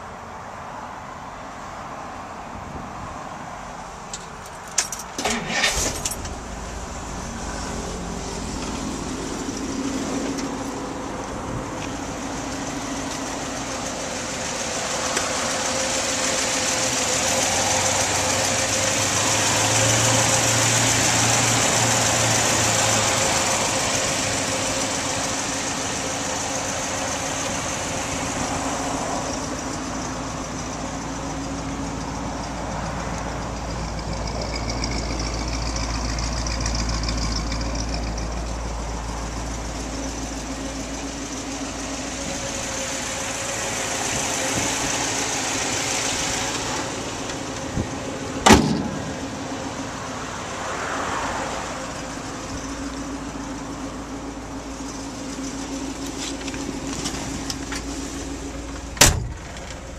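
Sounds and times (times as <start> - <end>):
car engine starting and idling: 1.5 - 59.9.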